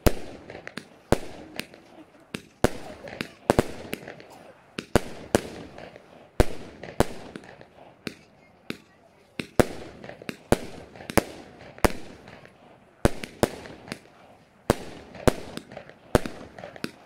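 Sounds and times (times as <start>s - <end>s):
firework bangs: 0.0s - 17.0s.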